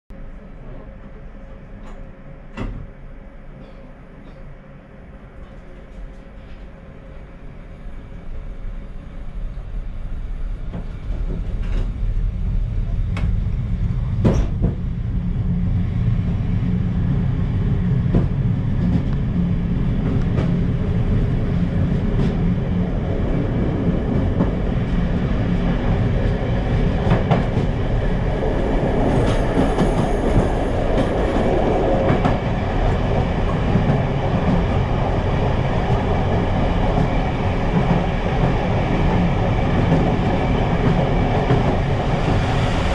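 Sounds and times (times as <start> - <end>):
train wheels rumbling on track: 5.2 - 42.9.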